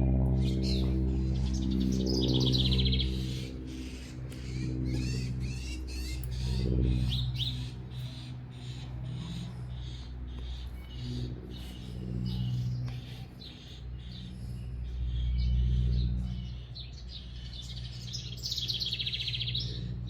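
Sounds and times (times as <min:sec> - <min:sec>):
songbirds chirping: 0:00.0 - 0:20.0
steady low hum: 0:00.0 - 0:20.0.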